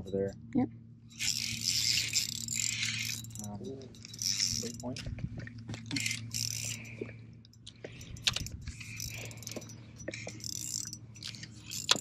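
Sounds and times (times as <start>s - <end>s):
steady low hum: 0.0s - 12.0s
fishing reel clicks and rustles: 1.1s - 12.0s.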